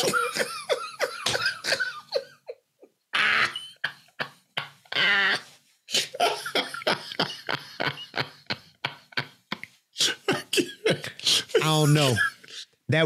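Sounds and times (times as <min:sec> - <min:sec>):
men laughing hard: 0:00.0 - 0:12.6.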